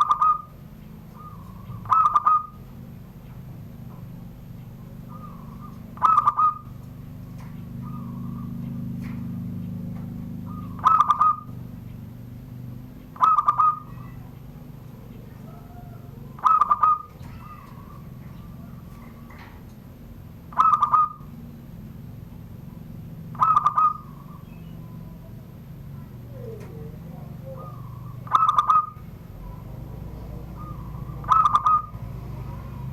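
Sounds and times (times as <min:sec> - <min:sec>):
dove cooing: 0:00.0 - 0:32.9
steady low hum: 0:00.0 - 0:32.9.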